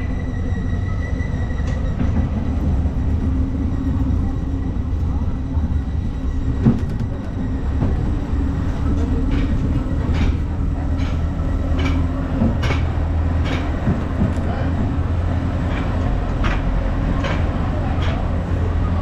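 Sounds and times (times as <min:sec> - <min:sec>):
train rumbling on rails: 0:00.0 - 0:19.0
wheels clicking over rail joints: 0:01.6 - 0:19.0.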